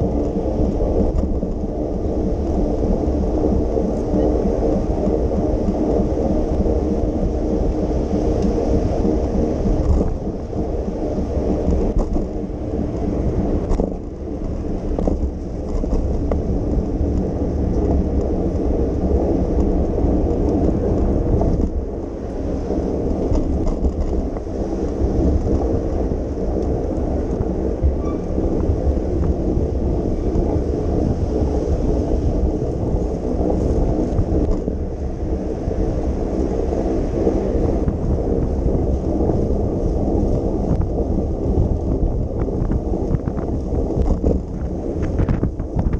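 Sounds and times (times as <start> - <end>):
wind rumbling on microphone: 0.0 - 45.9.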